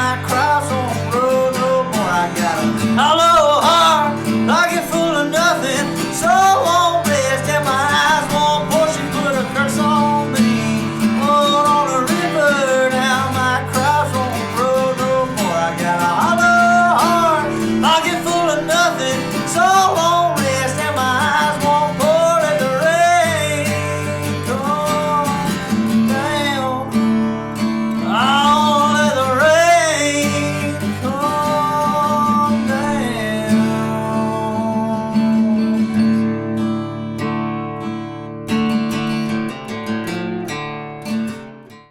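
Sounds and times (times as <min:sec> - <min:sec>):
acoustic guitar strumming: 0:00.0 - 0:41.9
bending guitar melody: 0:00.0 - 0:41.9.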